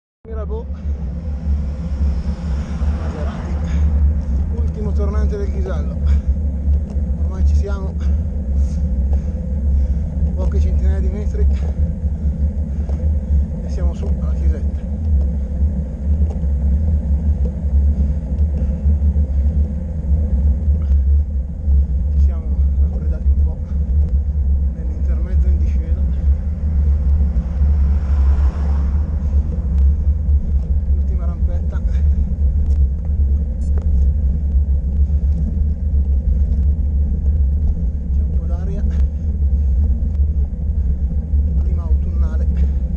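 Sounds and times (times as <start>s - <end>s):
road noise: 0.3s - 42.9s
wind buffeting microphone: 0.3s - 42.9s.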